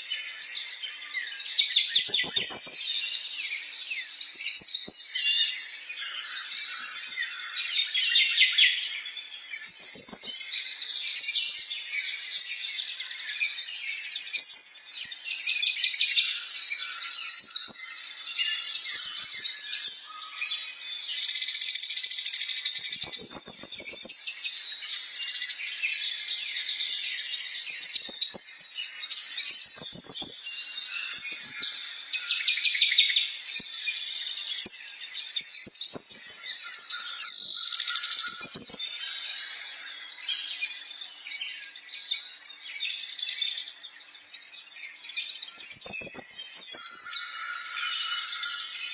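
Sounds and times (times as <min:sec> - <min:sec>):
small birds chirping chorus: 0:00.0 - 0:48.9.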